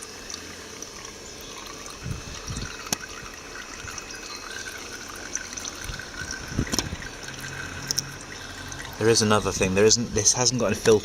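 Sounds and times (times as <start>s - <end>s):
oil trickling into bottle: 0.0s - 11.0s.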